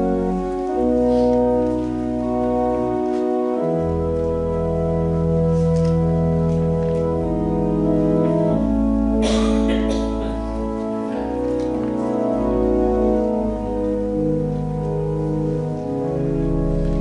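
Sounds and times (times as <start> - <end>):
rustling noise: 0.0 - 8.9, 10.2 - 17.0
organ playing sustained chords: 0.0 - 17.0.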